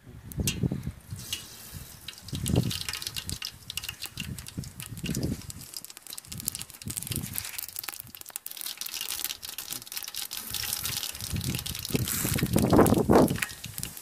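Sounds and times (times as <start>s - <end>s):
water gushing and splashing: 1.0s - 14.0s
crinkling handling noises: 1.1s - 14.0s.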